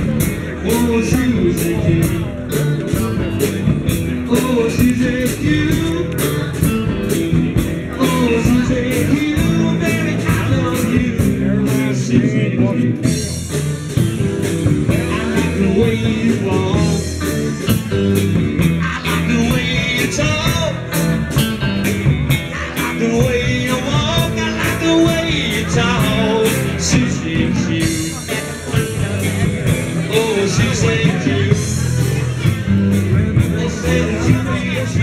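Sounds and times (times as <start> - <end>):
song with singer and beat: 0.0 - 35.0.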